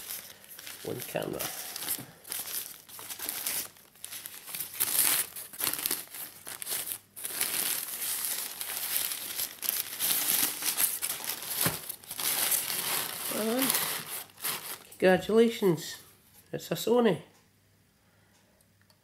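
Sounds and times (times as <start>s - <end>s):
plastic wrapping crinkling: 0.0s - 15.6s.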